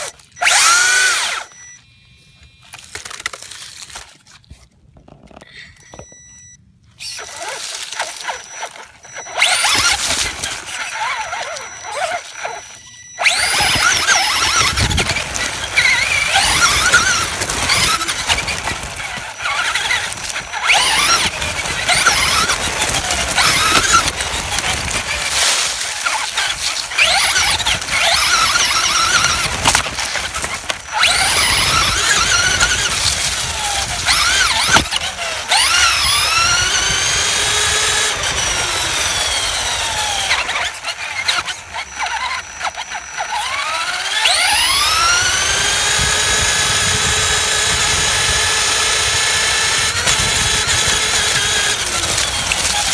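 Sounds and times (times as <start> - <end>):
electric motor whining: 0.0 - 4.0, 7.0 - 52.9.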